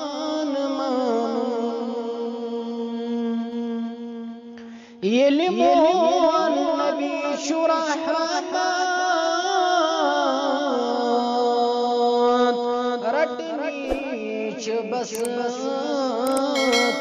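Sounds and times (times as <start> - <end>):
man singing: 0.0 - 4.2, 5.0 - 17.0.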